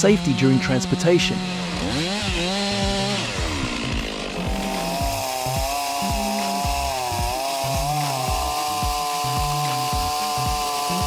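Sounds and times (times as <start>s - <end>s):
chainsaw cutting log: 0.0s - 11.0s.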